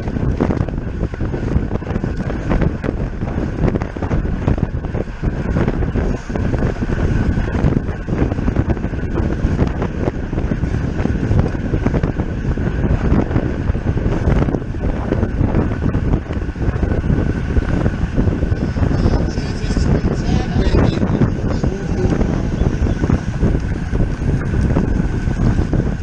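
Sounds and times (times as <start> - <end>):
bicycle tyre and drivetrain noise: 0.0 - 26.0
wind buffeting microphone: 0.0 - 26.0.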